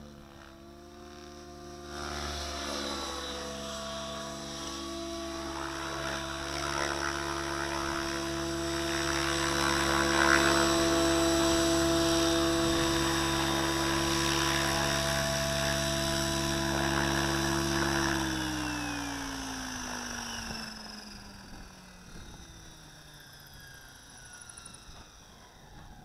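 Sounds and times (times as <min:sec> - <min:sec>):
rc helicopter rotor humming: 0:00.0 - 0:26.0.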